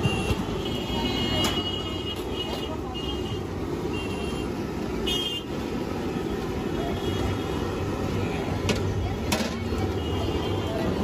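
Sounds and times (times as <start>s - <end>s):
gas burners rumbling: 0.0s - 11.0s
passing traffic: 0.0s - 11.0s.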